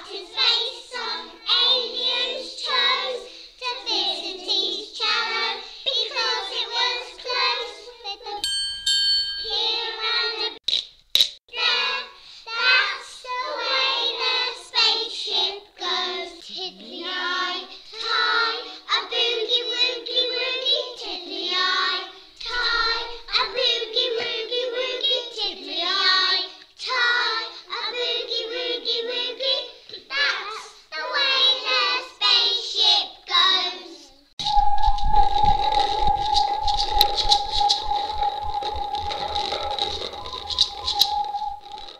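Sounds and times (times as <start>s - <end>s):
children singing: 0.0s - 8.5s, 9.4s - 10.6s, 11.5s - 41.9s.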